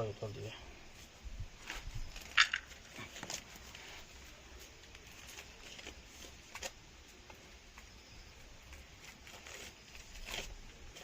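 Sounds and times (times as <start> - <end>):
corn plants rustling: 0.9 - 11.0.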